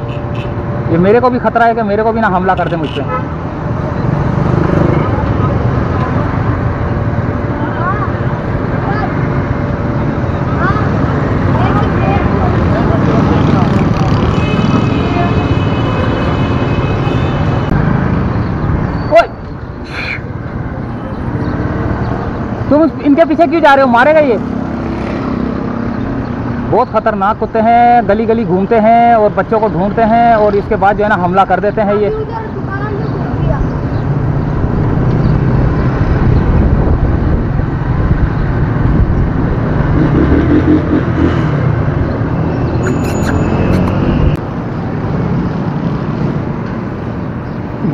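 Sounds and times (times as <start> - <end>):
motorcycle and traffic rumble: 0.0 - 47.9.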